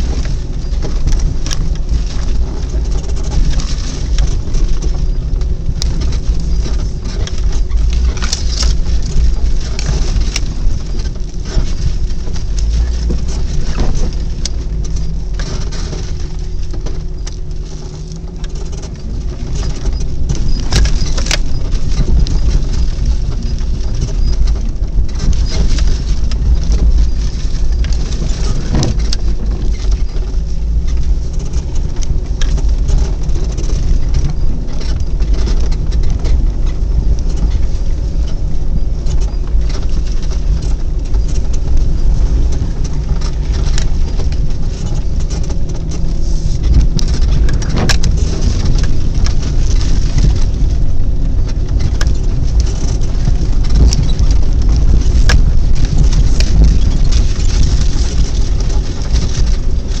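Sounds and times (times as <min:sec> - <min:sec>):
engine and tyres rumbling: 0:00.0 - 1:00.0.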